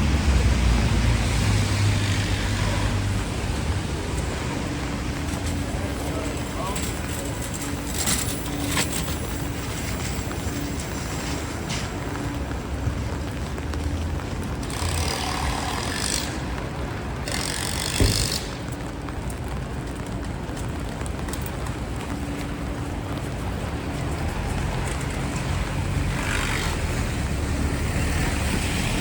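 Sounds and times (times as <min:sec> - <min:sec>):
traffic on wet road: 0:00.0 - 0:29.0.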